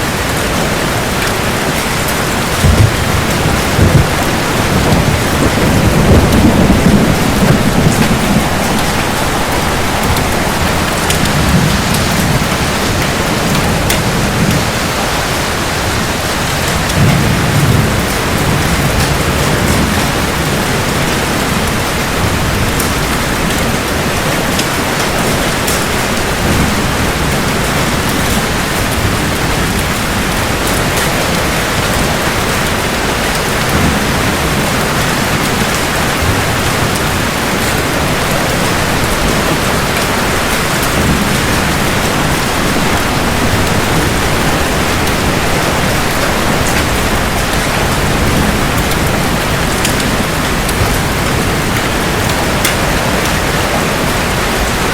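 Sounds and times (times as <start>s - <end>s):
dense rain on hard surfaces: 0.0s - 54.9s
low rumble of thunder: 0.0s - 54.9s.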